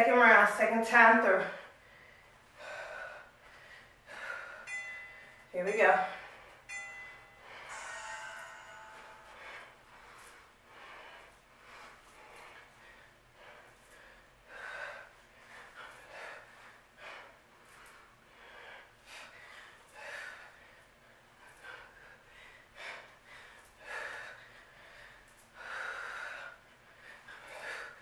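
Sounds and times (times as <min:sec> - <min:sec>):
woman breathing hard: 0:01.4 - 0:05.5, 0:06.1 - 0:28.0.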